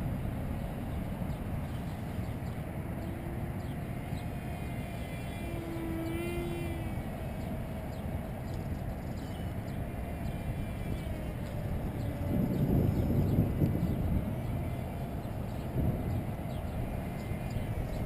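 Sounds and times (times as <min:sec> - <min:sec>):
distant model jet motor whine: 0:00.0 - 0:18.0
high-pitched hum: 0:00.0 - 0:18.0
wind rumble on microphone: 0:00.0 - 0:18.0.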